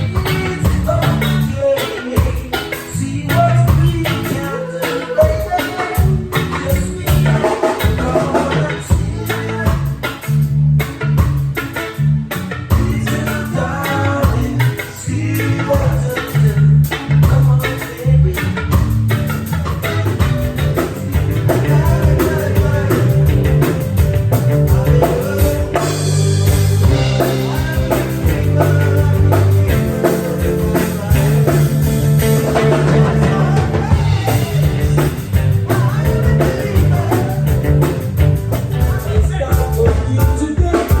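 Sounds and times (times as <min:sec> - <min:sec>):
bass line: 0:00.0 - 0:41.0
drum kit beat: 0:00.0 - 0:41.0
guitar: 0:00.0 - 0:41.0.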